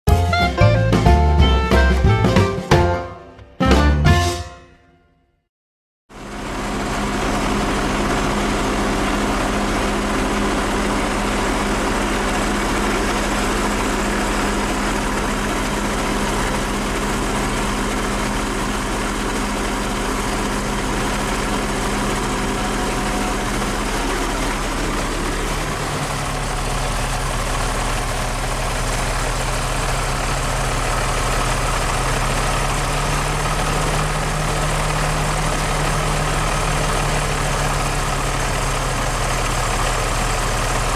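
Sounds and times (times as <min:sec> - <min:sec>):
diesel engine idling: 0:06.2 - 0:40.9.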